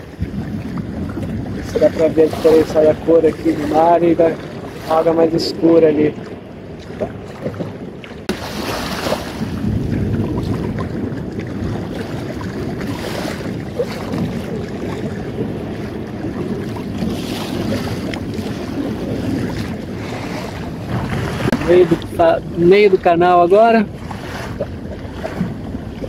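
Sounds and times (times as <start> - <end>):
water rushing along boat hull: 0.0 - 26.0
wind buffeting microphone: 0.0 - 26.0.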